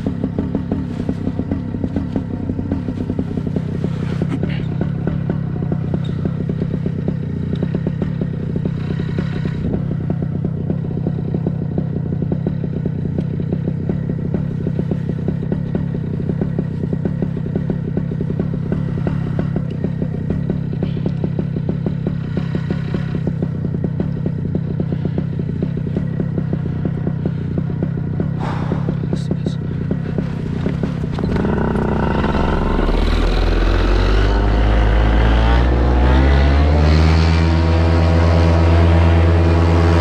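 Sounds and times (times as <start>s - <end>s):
paramotor engine running: 0.0s - 40.0s.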